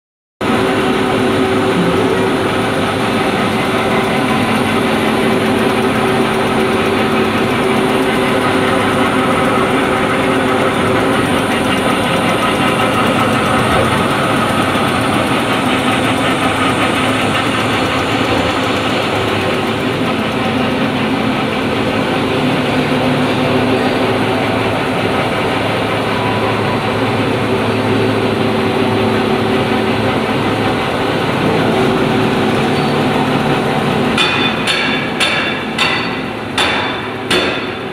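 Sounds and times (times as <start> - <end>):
machine hum tones: 0.4 - 37.9
printing machine running: 0.4 - 37.9.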